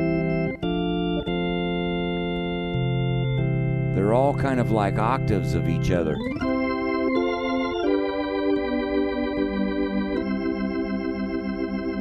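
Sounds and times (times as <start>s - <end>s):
organ playing held chords: 0.0s - 12.0s.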